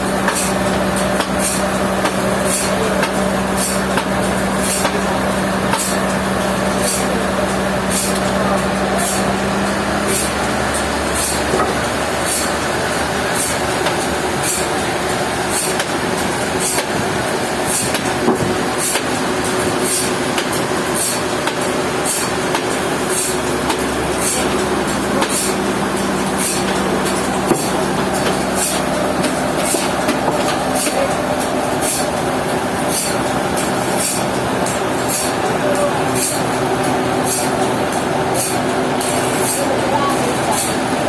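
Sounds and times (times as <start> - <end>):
sawmill machinery humming: 0.0 - 41.0.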